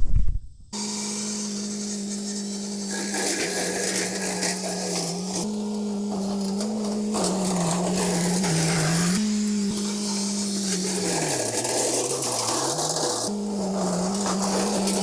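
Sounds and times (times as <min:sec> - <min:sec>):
small engine running: 0:00.7 - 0:15.0.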